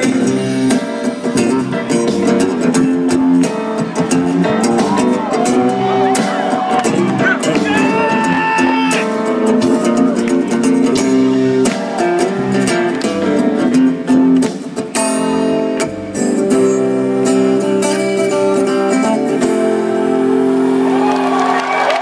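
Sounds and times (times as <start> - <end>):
live band instrumental: 0.0 - 22.0.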